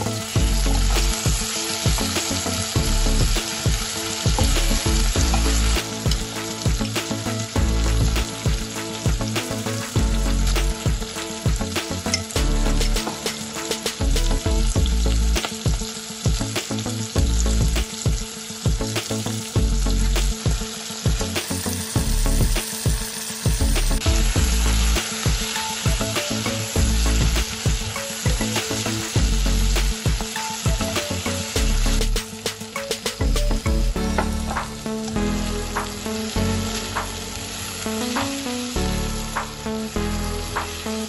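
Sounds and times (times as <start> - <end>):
vegetables sizzling in oil: 0.0 - 41.0.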